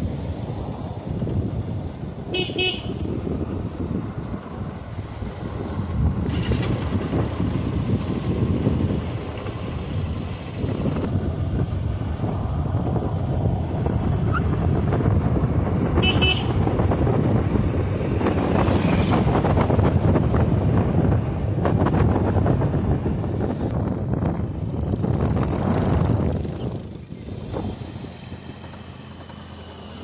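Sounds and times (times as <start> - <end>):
wind buffeting microphone: 0.0 - 29.6.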